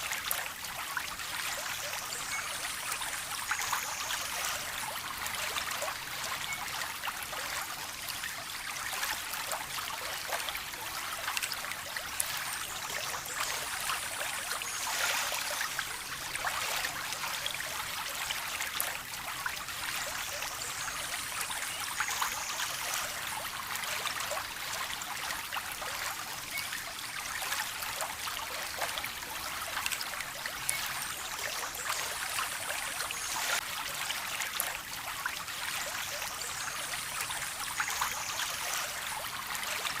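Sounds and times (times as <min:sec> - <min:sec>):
water trickling in stream: 0:00.0 - 0:40.0.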